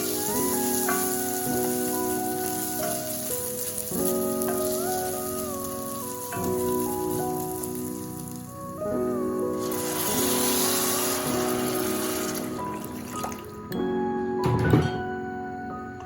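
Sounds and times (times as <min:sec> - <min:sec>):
food sizzling in frying pan: 0:00.0 - 0:13.7
slow sustained chords music: 0:00.0 - 0:16.0.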